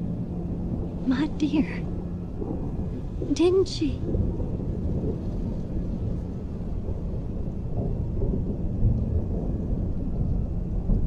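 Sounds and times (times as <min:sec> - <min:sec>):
low rumbling drone: 0:00.0 - 0:11.0.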